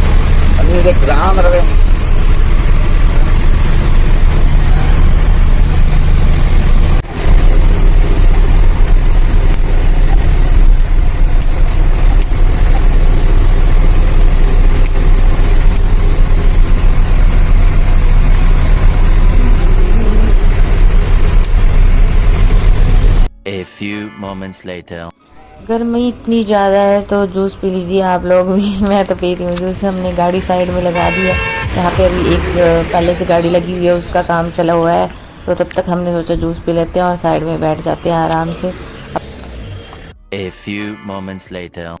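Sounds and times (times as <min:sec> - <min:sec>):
road noise: 0:00.0 - 0:23.3, 0:25.2 - 0:41.0
truck engine rumbling: 0:00.0 - 0:23.6, 0:25.1 - 0:42.0.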